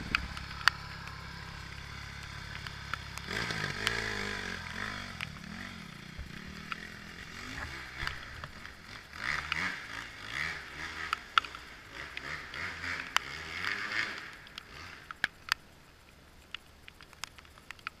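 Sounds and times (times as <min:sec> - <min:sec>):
dirt bike engine revving: 0:00.0 - 0:15.2.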